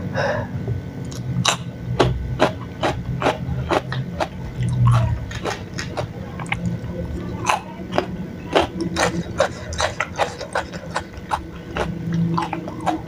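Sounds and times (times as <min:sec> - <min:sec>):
wet chewing: 0:01.1 - 0:13.0.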